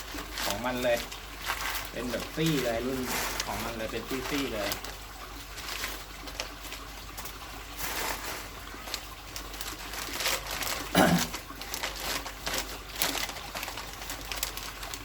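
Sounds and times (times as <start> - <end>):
paper wrapping rustling: 0.0 - 15.0.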